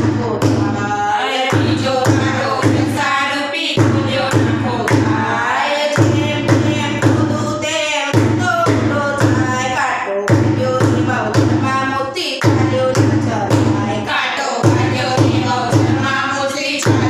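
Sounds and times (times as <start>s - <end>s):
deep steady drum beat: 0.0s - 3.1s, 3.8s - 17.0s
women singing devotional song: 0.0s - 17.0s.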